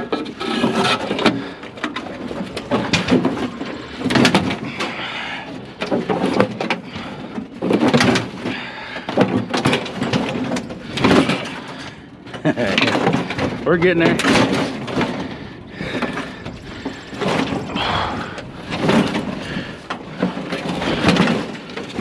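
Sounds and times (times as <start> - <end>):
metal grill clanking and scraping on wood: 0.0 - 5.0, 5.6 - 22.0.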